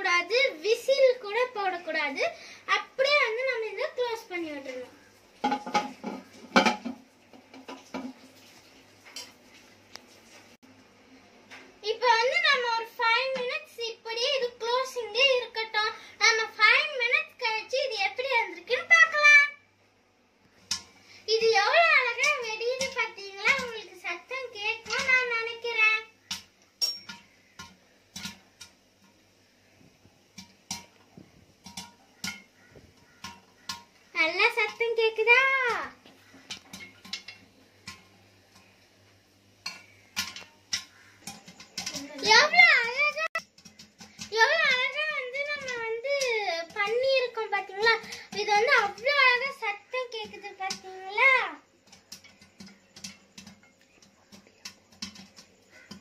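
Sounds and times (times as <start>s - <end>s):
popcorn popping in a pot: 0.0s - 10.0s, 20.4s - 56.0s.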